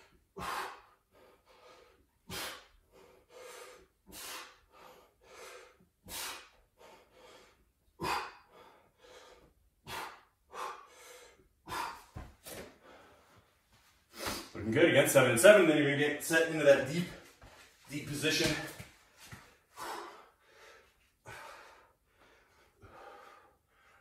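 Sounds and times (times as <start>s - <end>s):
person breathing hard: 0.0s - 14.6s, 18.5s - 24.0s.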